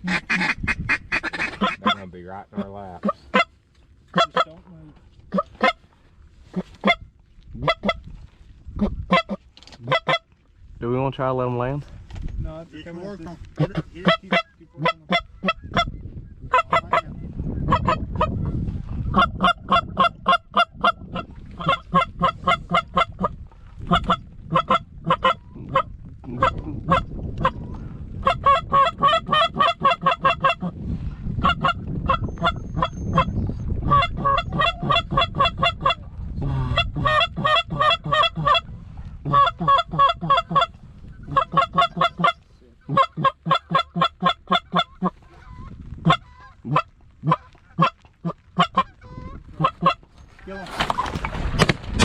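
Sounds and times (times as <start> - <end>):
wind on microphone: 0.0 - 4.2, 5.0 - 52.0.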